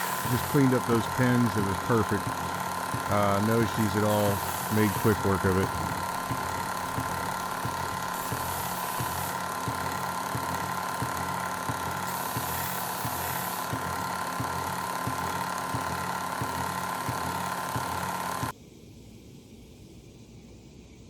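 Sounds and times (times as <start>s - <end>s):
high sanding hiss: 0.0s - 18.5s
sander motor humming: 0.0s - 18.5s.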